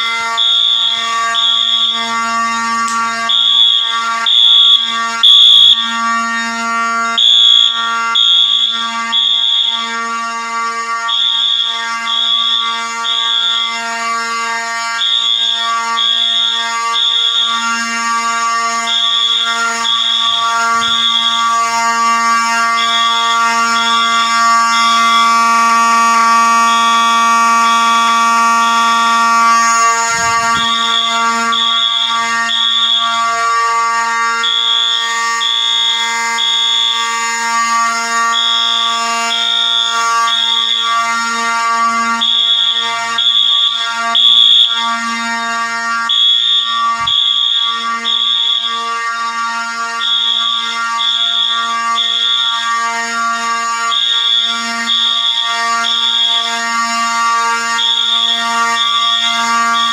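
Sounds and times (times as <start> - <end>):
high beeping alarm horn: 0.0 - 59.9
steady electronic horn tone: 0.0 - 59.9.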